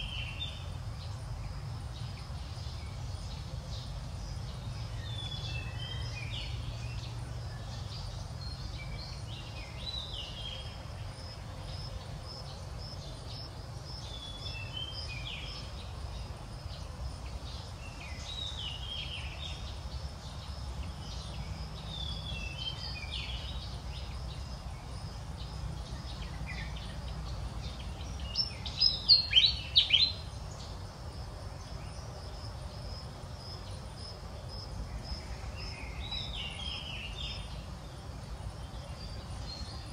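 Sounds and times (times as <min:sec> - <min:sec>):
faint high insect drone: 0:00.0 - 0:39.9
small birds chirping: 0:00.0 - 0:39.9.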